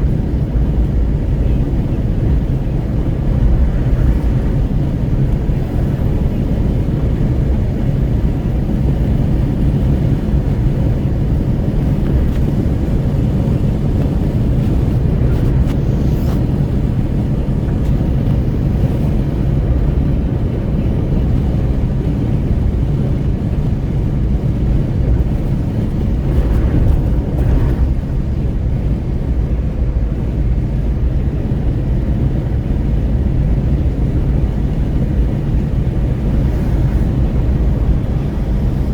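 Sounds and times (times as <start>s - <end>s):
car road noise rumble: 0.0s - 38.9s
wind rushing at open window: 0.0s - 38.9s.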